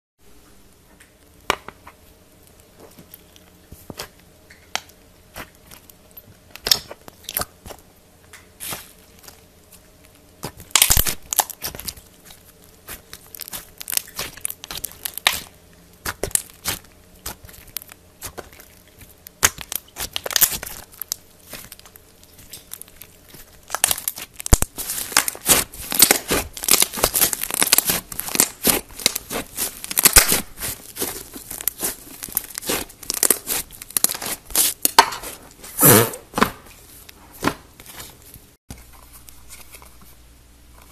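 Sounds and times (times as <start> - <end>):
slime crackling and popping: 2.4 - 36.0.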